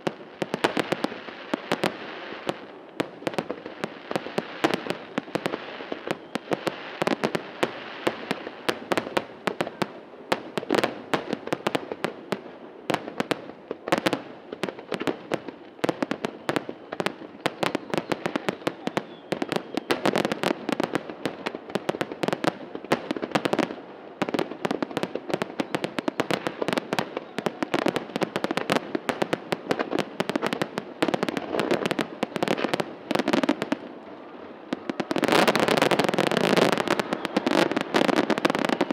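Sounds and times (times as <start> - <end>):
fireworks bursts and crackling bangs: 0.0 - 38.9.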